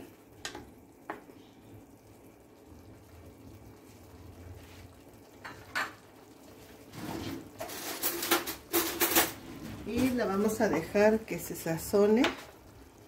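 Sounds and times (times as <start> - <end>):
faint simmering: 0.0 - 8.7, 9.3 - 13.0.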